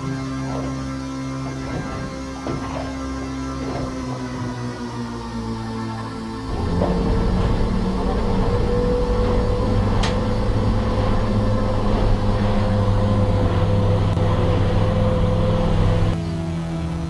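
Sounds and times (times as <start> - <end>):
water and spray on hull: 0.0 - 16.2
boat engine droning: 0.0 - 17.0.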